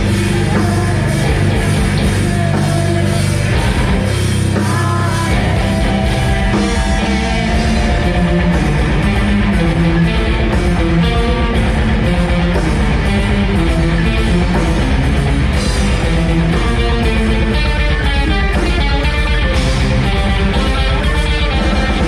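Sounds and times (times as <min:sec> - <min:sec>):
bass guitar: 0:00.0 - 0:22.0
distorted electric guitars: 0:00.0 - 0:22.0
pounding drum kit: 0:00.0 - 0:22.0.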